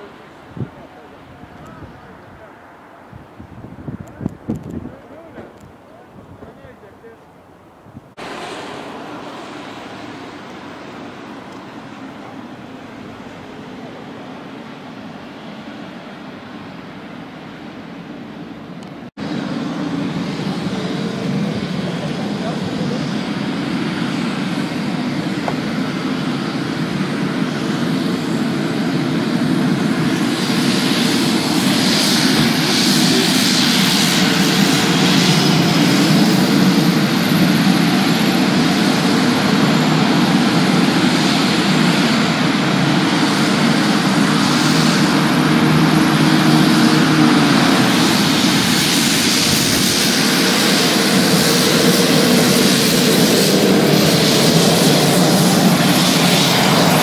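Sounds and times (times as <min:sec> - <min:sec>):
turboprop engine and propeller: 0:00.0 - 0:57.0.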